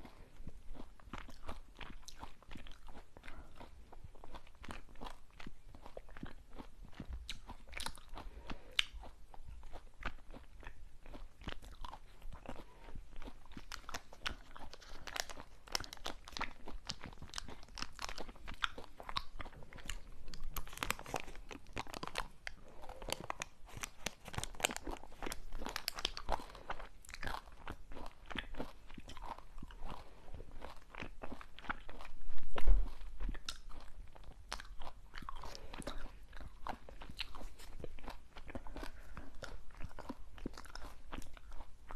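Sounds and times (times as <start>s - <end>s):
chewing crunchy snack: 0.0s - 41.9s.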